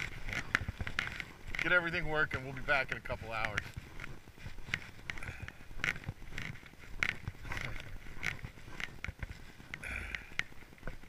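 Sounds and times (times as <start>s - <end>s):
footsteps crunching through snow: 0.0s - 11.0s.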